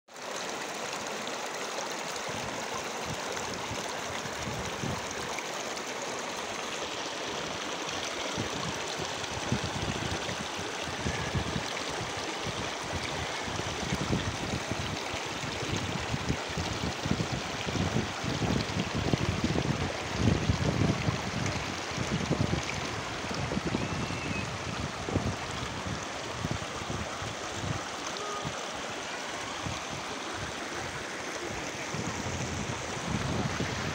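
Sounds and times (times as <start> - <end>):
stream rushing over rocks: 0.1 - 33.9
wind buffeting microphone: 2.3 - 5.3, 8.3 - 28.6, 29.4 - 33.9.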